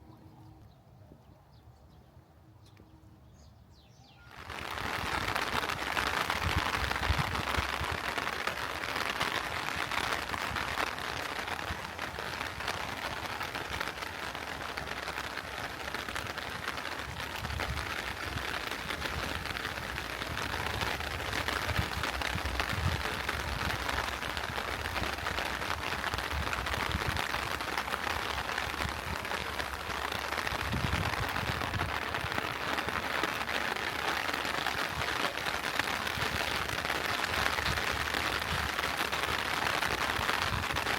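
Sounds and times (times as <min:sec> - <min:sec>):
heavy rain: 0:04.3 - 0:40.9.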